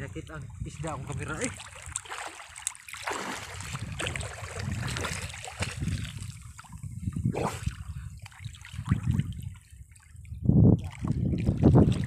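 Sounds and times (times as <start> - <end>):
water splashing and sloshing: 0.1 - 12.0.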